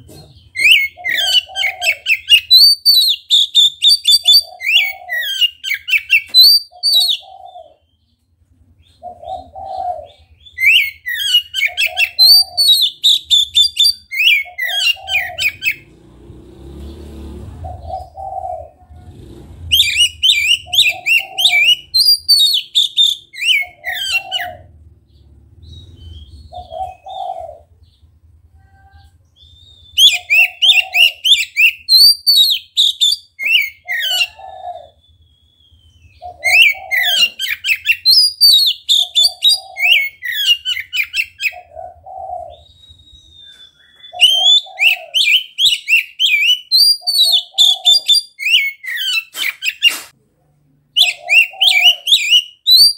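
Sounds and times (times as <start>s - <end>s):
bird singing varied high phrases: 0.0s - 50.2s, 50.9s - 52.9s.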